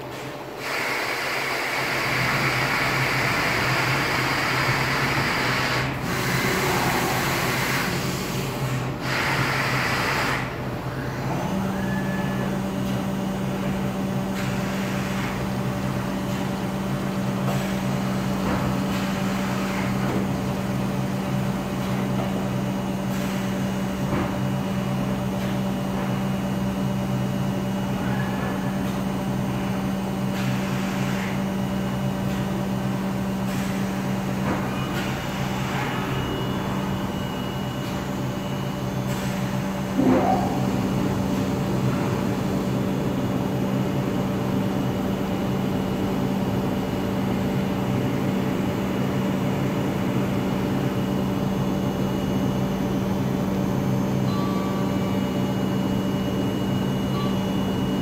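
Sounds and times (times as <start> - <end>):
low machine hum: 10.5 - 58.0.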